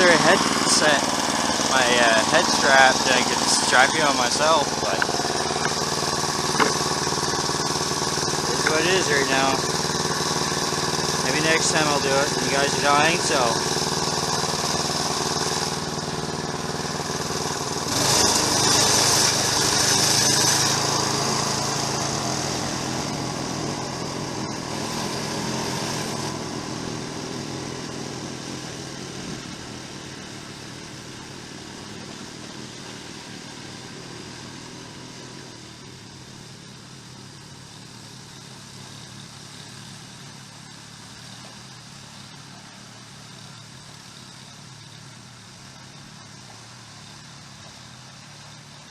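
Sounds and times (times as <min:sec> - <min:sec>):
snowblower engine running: 0:00.0 - 0:48.9.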